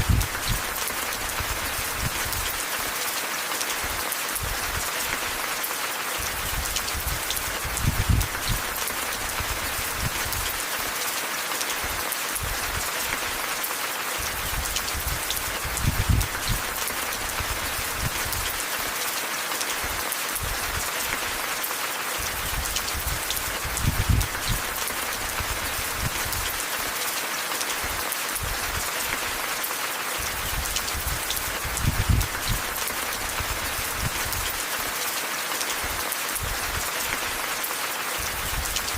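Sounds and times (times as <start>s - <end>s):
rain hissing and pattering: 0.0s - 38.9s.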